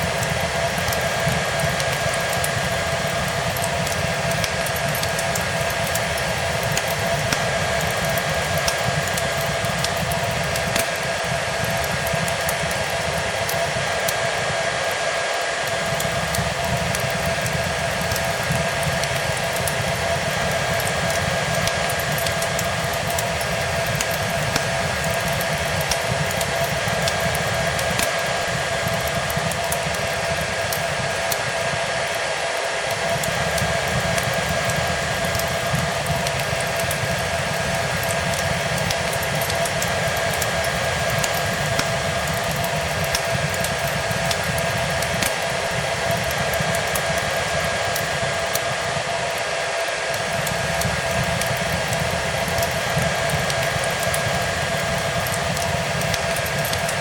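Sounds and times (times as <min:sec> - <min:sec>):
fireplace fire crackling: 0:00.0 - 0:57.0
hair dryer blowing: 0:00.0 - 0:57.0.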